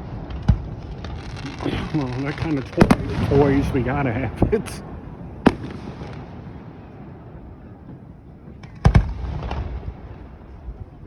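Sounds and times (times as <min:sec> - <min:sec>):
fireworks bangs: 0:00.0 - 0:10.6.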